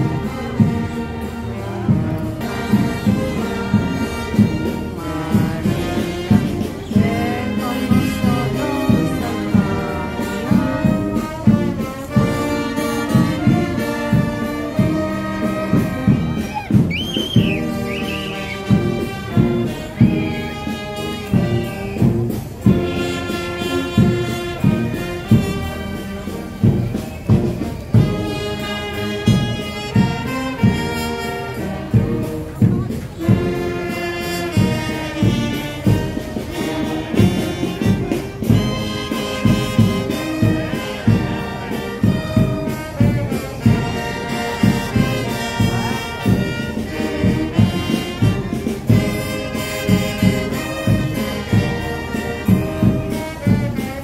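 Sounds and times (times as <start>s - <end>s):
steady drum beat: 0.0s - 54.0s
trumpets and trombones chords: 0.0s - 54.0s.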